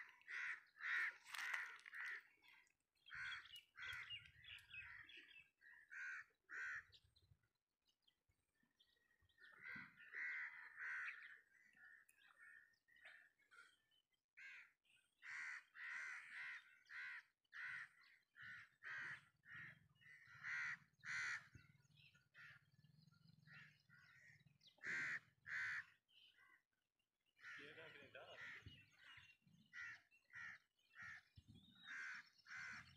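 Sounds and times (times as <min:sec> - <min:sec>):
crows cawing faintly: 0:00.0 - 0:07.1, 0:09.4 - 0:13.8, 0:14.4 - 0:22.7, 0:23.5 - 0:26.6, 0:27.4 - 0:32.9.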